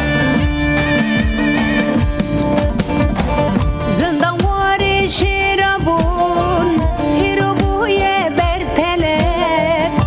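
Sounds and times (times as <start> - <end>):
ornamented melody line: 0.0 - 10.0
steady drum beat: 0.0 - 10.0.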